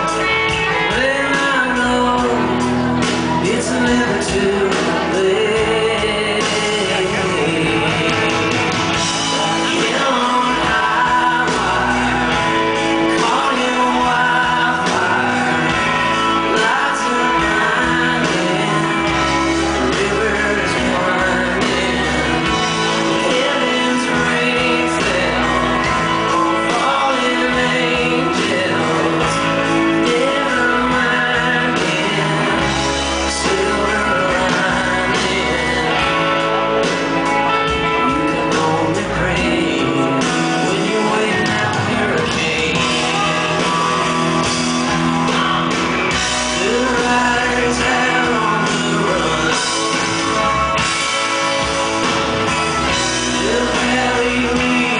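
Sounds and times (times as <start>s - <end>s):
acoustic and electric guitars: 0.0s - 54.9s
drums: 0.0s - 54.9s
keyboard: 0.0s - 54.9s
male lead singer singing: 0.0s - 54.9s.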